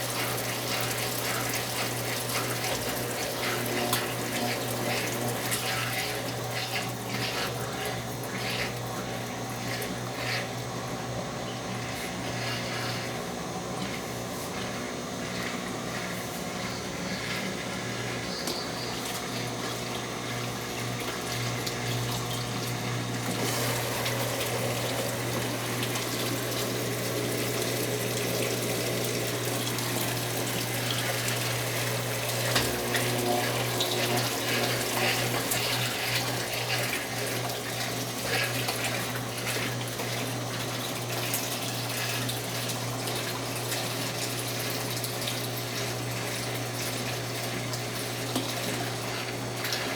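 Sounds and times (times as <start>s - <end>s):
washing machine humming: 0.0s - 49.9s
water rushing in washing machine: 0.0s - 49.9s.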